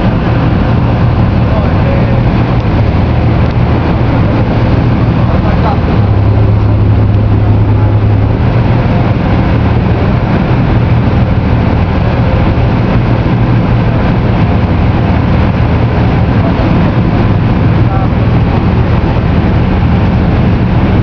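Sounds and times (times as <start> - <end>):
heavy engine machinery droning: 0.0 - 21.0.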